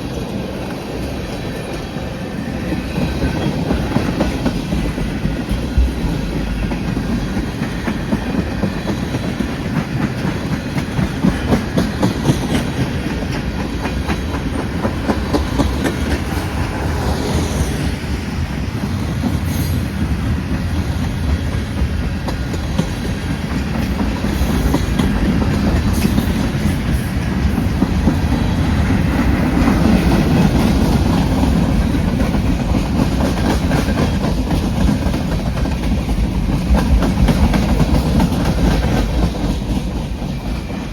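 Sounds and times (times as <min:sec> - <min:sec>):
train rumble: 0:00.0 - 0:40.9
train wheels clacking: 0:00.0 - 0:40.9.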